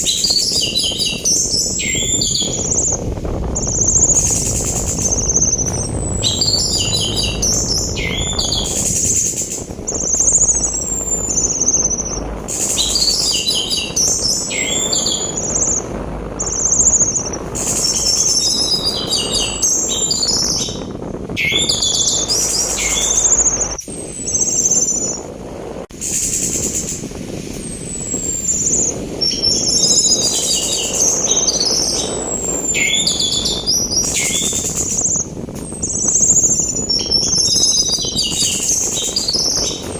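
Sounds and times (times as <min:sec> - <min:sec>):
thrush song with whistles and trills: 0:00.0 - 0:25.3, 0:25.9 - 0:39.9
rushing sea wind: 0:00.0 - 0:39.9.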